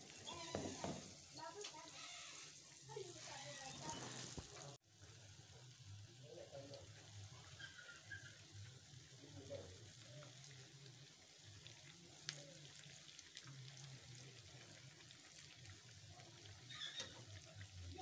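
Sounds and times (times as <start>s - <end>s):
dough sizzling in hot oil: 0.0s - 18.0s.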